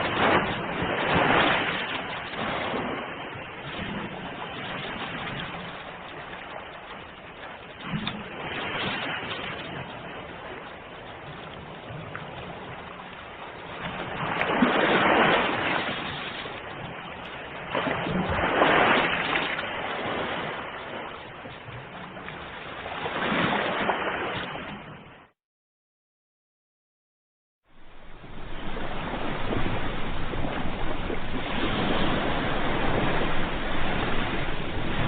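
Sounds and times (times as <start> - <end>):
ocean waves breaking: 0.0 - 25.4, 27.7 - 35.0.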